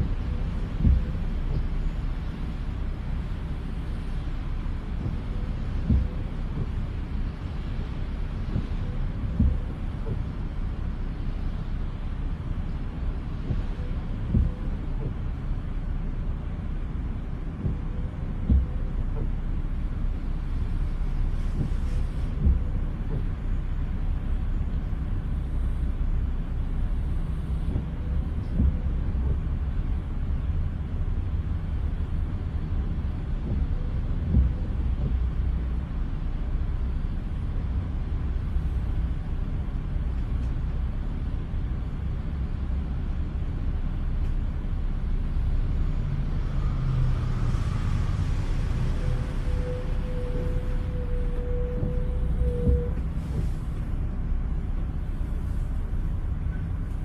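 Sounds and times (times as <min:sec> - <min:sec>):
low rumble inside car: 0:00.0 - 0:57.0.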